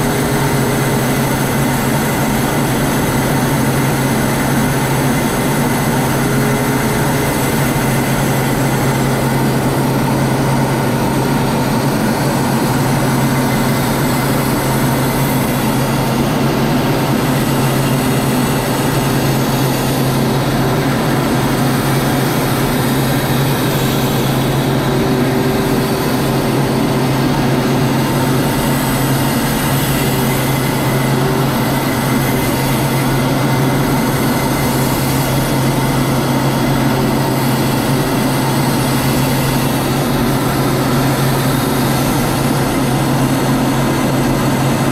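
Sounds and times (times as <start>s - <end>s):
aircraft engine hum: 0.0s - 44.9s
rushing air: 0.0s - 44.9s.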